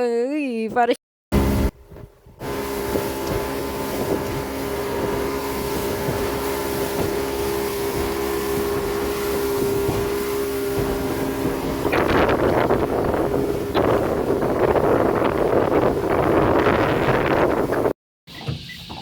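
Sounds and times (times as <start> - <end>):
boat engine humming: 1.3 - 19.0
wind buffeting microphone: 1.4 - 18.0.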